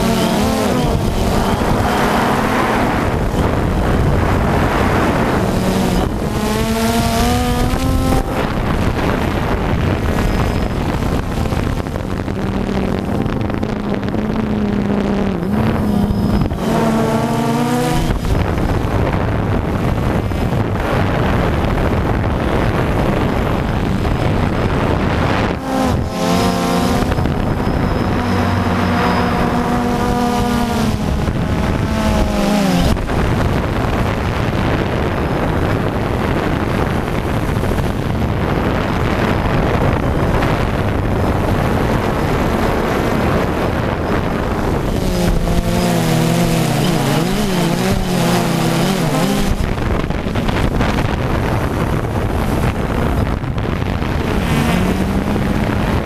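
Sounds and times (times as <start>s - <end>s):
drone motors buzzing hum: 0.0s - 56.0s
wind rush: 0.0s - 56.0s.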